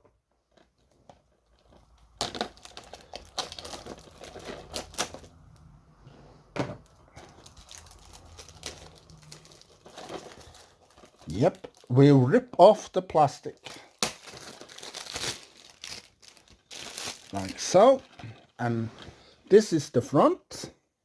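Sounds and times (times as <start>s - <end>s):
plastic shrink wrap crinkling: 0.4s - 5.7s, 6.8s - 19.0s.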